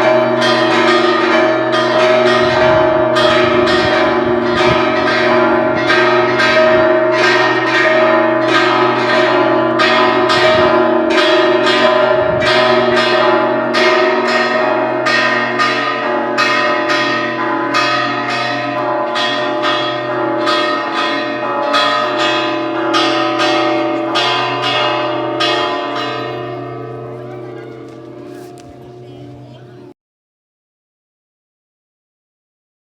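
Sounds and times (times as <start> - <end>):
church bells ringing a peal: 0.0 - 30.0.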